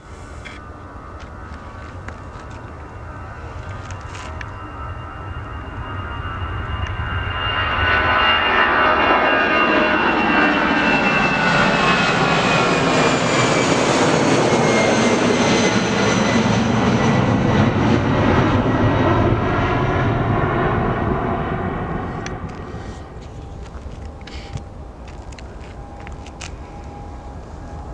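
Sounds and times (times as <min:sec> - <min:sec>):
jet airliner passing: 0:00.0 - 0:27.9.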